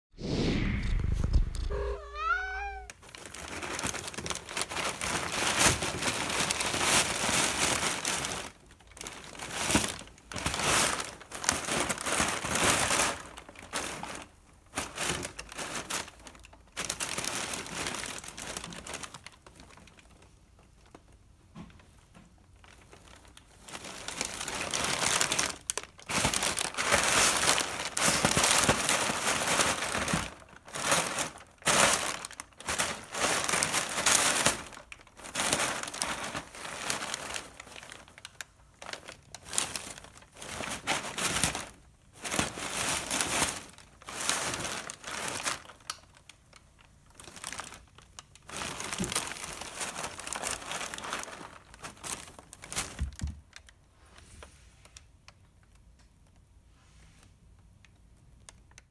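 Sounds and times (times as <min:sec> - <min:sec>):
packing paper crinkling: 0:01.3 - 0:21.2, 0:22.4 - 0:53.8.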